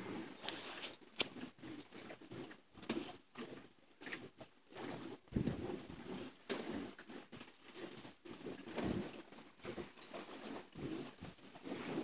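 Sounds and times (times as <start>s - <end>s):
water slapping along a hull: 0.0s - 12.0s.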